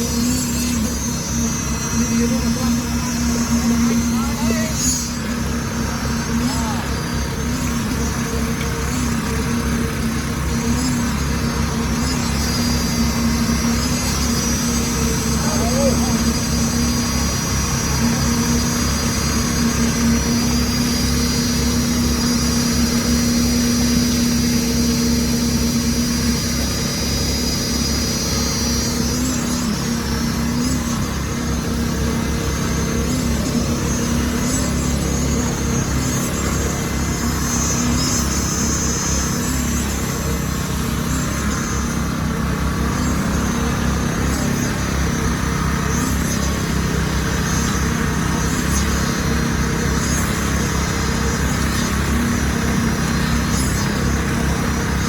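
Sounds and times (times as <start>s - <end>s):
heavy truck engine running: 0.0s - 55.0s
high-pitched whine: 0.0s - 55.0s.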